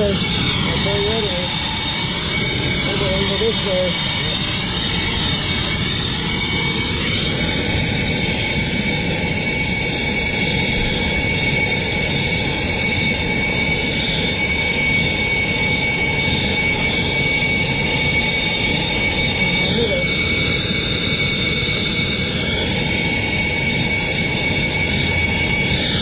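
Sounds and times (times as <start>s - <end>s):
gas torch roaring: 0.0s - 26.0s.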